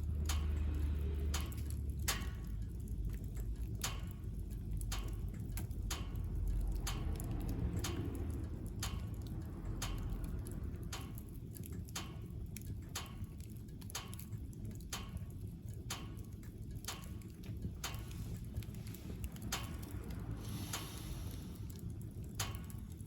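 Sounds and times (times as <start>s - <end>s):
firewood crackling and popping: 0.0s - 23.0s
low rumble of fire: 0.0s - 23.0s.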